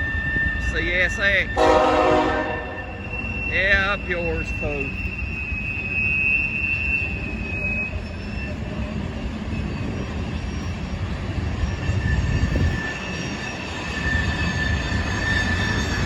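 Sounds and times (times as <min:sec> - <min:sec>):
train cars rumbling on rails: 0:00.0 - 0:16.0
high-pitched wheel squeals: 0:01.5 - 0:16.0.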